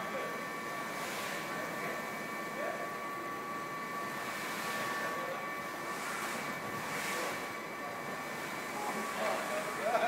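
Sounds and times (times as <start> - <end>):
mechanical whirring with high whine: 0.0 - 10.0.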